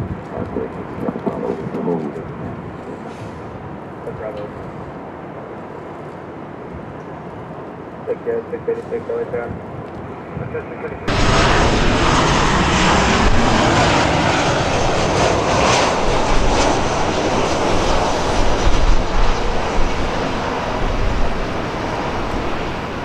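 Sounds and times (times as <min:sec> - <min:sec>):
airliner engine noise: 0:00.0 - 0:23.0.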